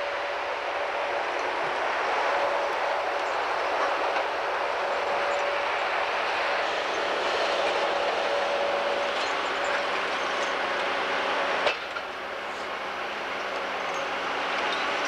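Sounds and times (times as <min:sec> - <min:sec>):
diesel engine drone: 0:00.0 - 0:15.0
held whine: 0:00.0 - 0:15.0.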